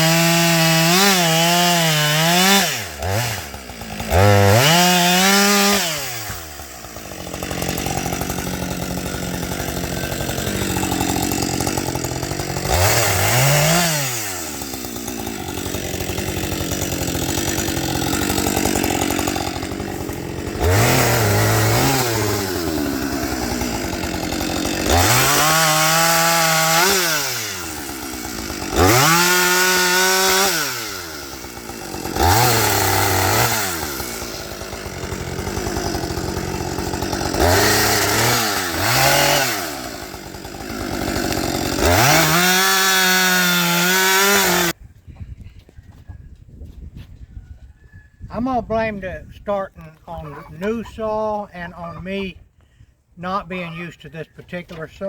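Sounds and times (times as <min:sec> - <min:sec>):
chainsaw idling and revving: 0:00.0 - 0:44.8.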